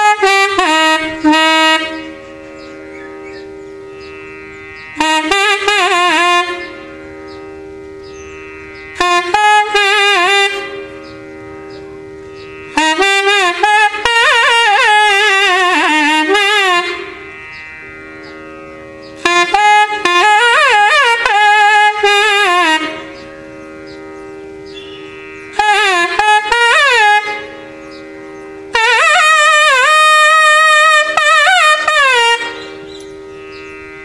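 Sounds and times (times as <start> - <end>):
steady drone: 0.0 - 34.0
wind instrument melody: 0.0 - 34.0.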